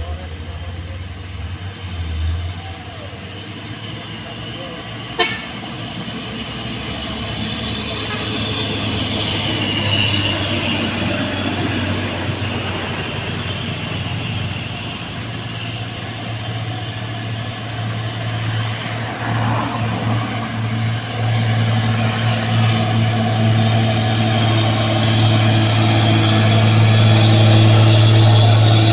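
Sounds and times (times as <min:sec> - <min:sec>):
heavy truck engine drone: 0:00.0 - 0:28.9
thin high whine: 0:02.7 - 0:28.9.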